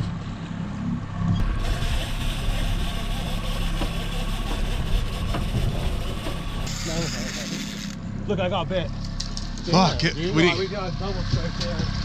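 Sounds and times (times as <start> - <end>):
boat engine idling: 0.1 - 12.0.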